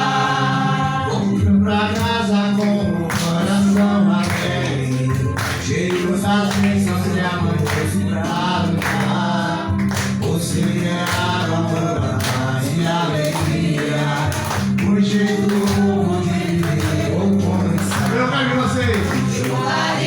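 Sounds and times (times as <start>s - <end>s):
group singing a hymn: 0.0s - 20.0s
instrumental accompaniment with bass: 0.0s - 20.0s.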